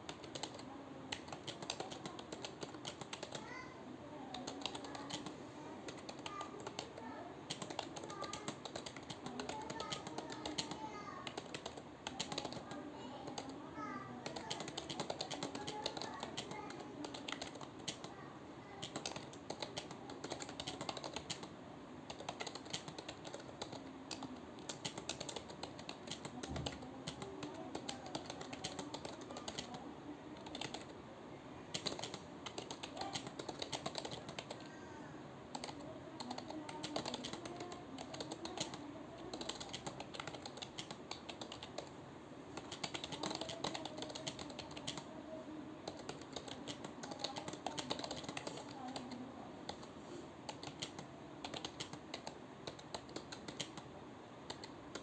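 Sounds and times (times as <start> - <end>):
fast typing on keyboard: 0.0 - 3.5, 4.3 - 21.5, 22.1 - 30.9, 31.7 - 34.7, 35.5 - 41.9, 42.6 - 45.2, 45.8 - 55.0.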